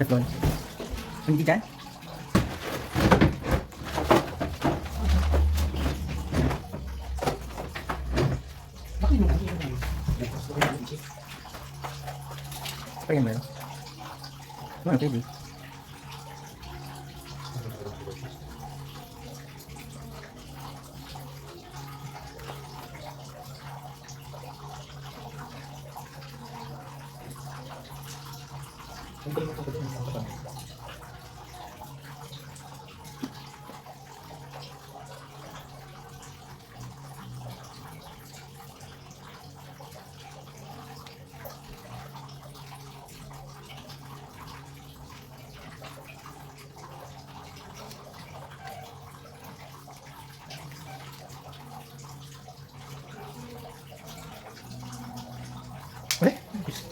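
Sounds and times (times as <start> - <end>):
water running from a pipe: 0.0 - 56.9.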